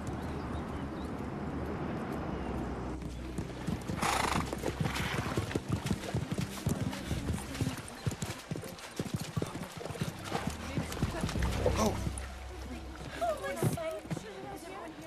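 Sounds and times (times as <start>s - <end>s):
horse hoofbeats galloping: 0.0s - 15.0s.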